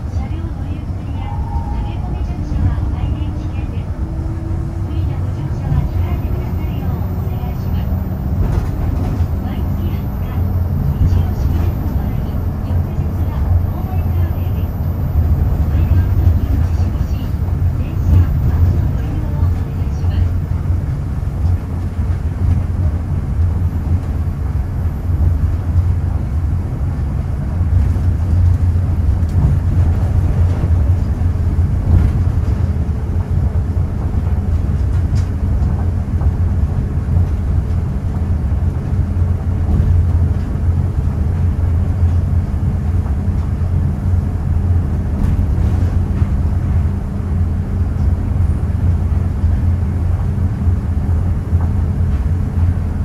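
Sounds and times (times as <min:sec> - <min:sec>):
tram car rumbling on rubber tyres: 0:00.0 - 0:53.0.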